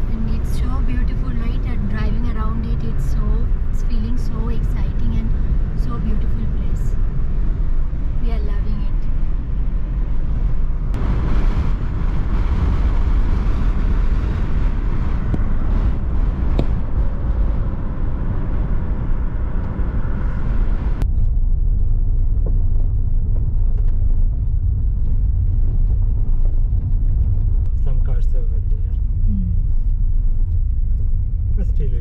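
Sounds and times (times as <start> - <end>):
low road rumble: 0.0 - 32.0
wind and tyre hiss: 0.0 - 32.0.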